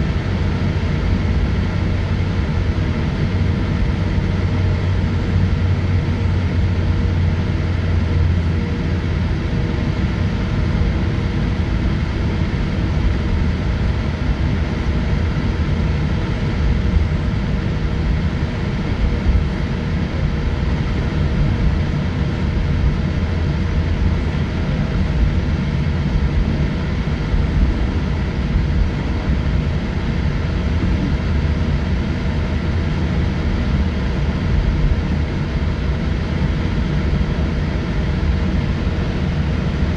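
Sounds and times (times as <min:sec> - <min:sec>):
aircraft engines low rumble: 0:00.0 - 0:39.9.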